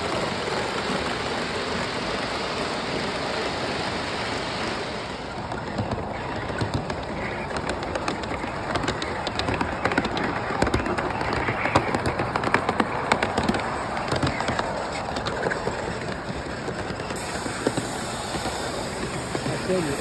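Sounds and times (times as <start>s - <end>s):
model train wheels clattering: 0.0s - 20.0s.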